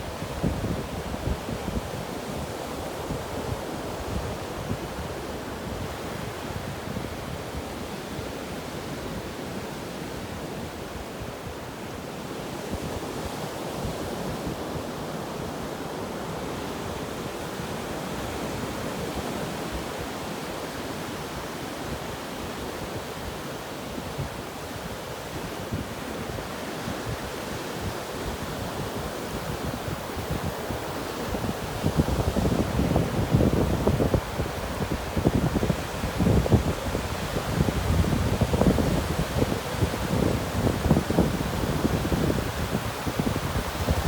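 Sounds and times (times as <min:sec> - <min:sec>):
wind on microphone: 0:00.0 - 0:44.0.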